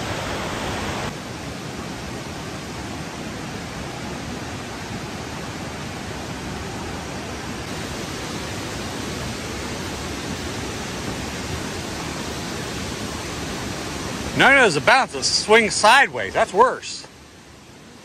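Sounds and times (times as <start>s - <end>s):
river and waterfall rushing: 0.0s - 18.0s.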